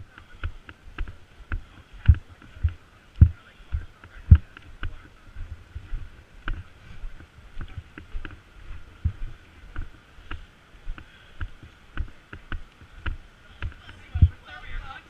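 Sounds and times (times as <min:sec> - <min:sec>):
footsteps walking: 0:00.0 - 0:14.9.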